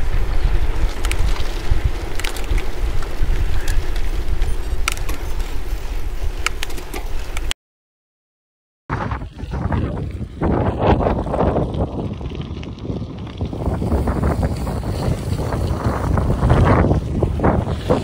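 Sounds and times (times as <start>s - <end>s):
bicycle tyre noise: 0.0s - 7.5s, 8.9s - 18.0s
wind buffeting microphone: 0.0s - 7.5s, 8.9s - 18.0s.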